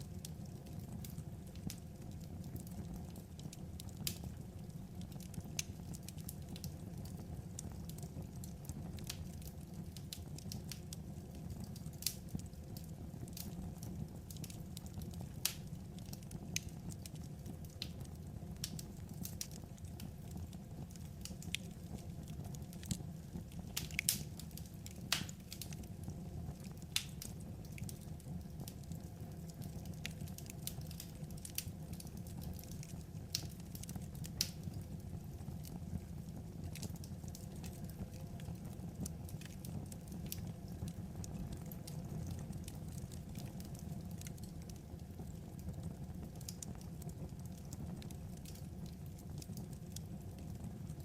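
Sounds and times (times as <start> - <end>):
wood fire crackling and popping: 0.0 - 51.0.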